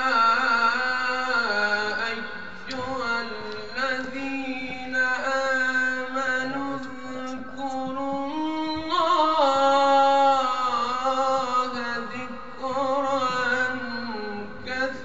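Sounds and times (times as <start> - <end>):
man chanting a recitation: 0.0 - 15.0.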